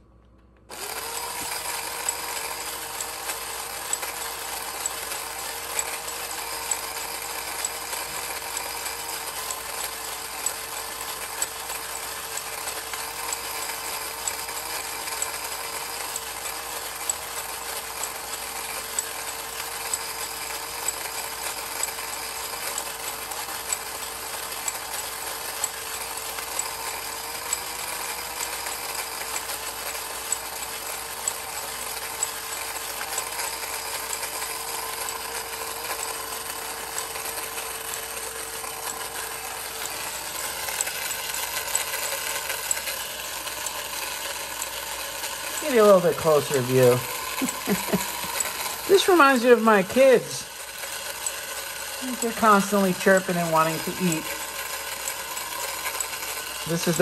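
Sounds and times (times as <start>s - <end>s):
toy motor whirring: 0.6s - 57.0s
sharp toy clicks: 0.7s - 57.0s.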